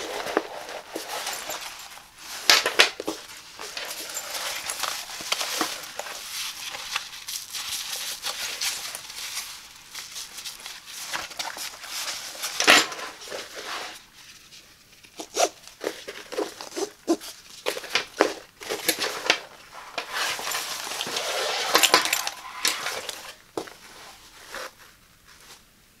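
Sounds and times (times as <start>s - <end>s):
fabric backpack rustling: 0.0s - 14.2s, 15.2s - 25.6s.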